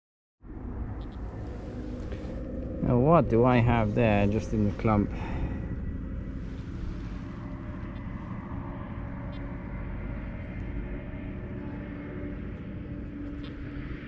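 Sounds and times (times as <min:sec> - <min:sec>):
low engine drone: 0:00.4 - 0:14.0.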